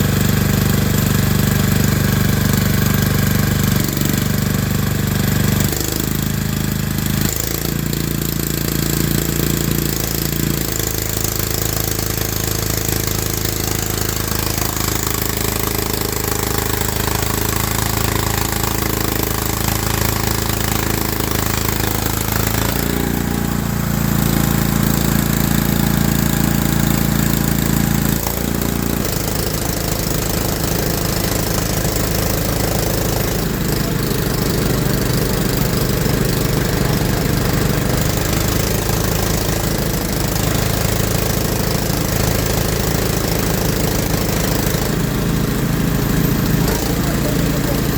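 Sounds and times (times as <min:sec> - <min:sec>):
engine running: 0:00.0 - 0:47.9.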